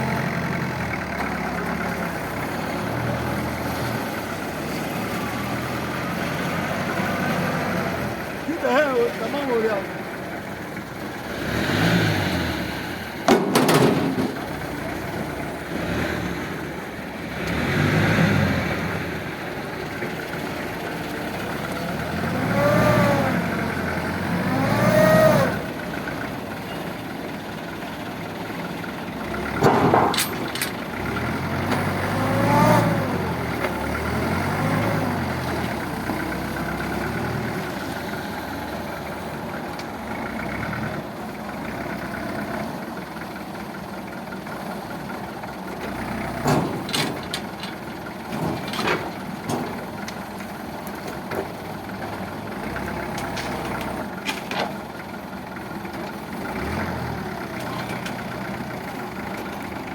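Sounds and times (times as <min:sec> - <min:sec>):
truck engine revving: 0:00.0 - 0:54.2, 0:55.4 - 0:59.9.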